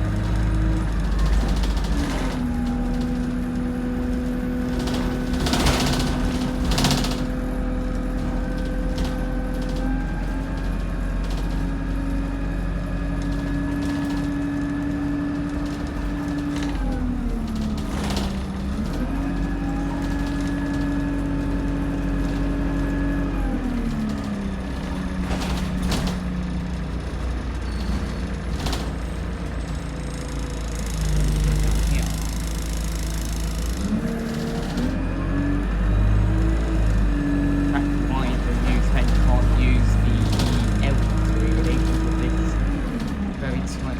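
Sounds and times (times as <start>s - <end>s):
bodywork clicks and rattles: 0.0s - 35.0s, 36.4s - 43.8s
bus engine whine: 0.0s - 43.9s.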